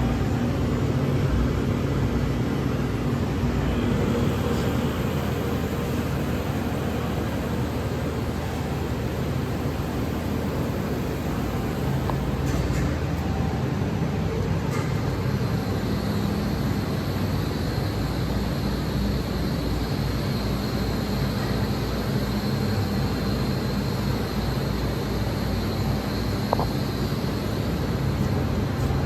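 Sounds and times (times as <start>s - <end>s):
high-pitched whine: 0.0s - 29.0s
machine mechanical hum: 0.0s - 29.0s.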